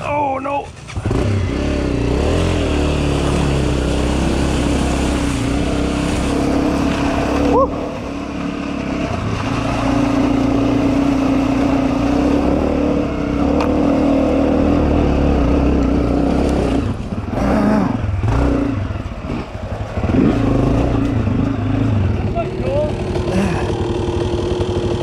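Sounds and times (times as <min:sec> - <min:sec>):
dirt bike engine revving: 0:01.0 - 0:25.0.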